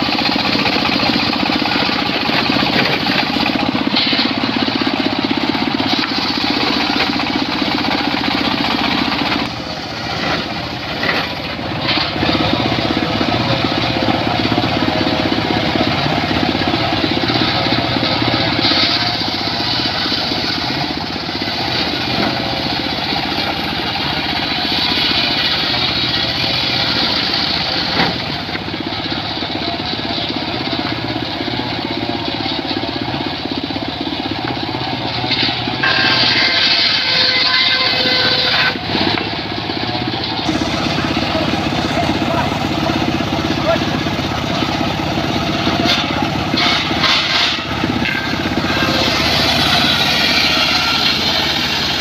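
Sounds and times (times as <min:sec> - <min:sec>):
circular saw cutting wood: 0:00.0 - 0:31.2, 0:34.0 - 0:52.0.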